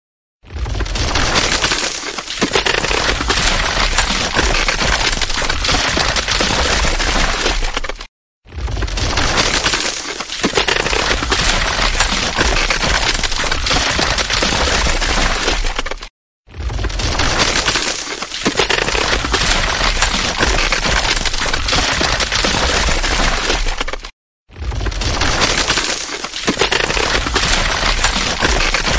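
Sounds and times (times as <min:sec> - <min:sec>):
ice cracking: 0:00.5 - 0:28.9.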